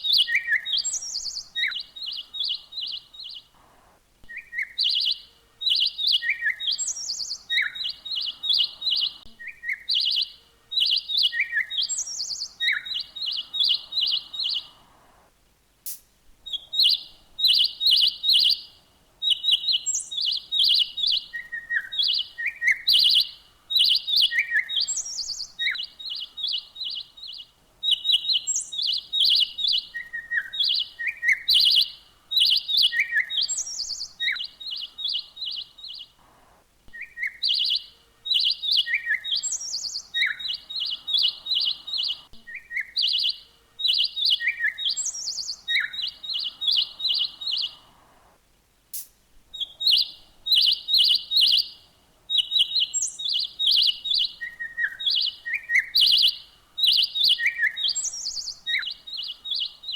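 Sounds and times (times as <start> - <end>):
songbird chirping: 0.0 - 59.9.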